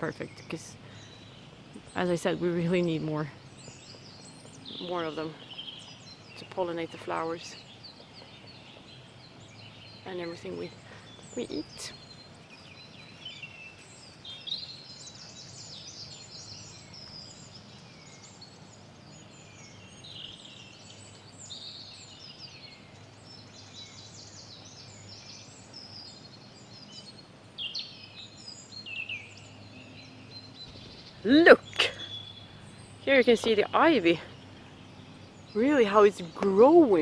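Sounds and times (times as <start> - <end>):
songbirds singing: 0.0 - 37.0.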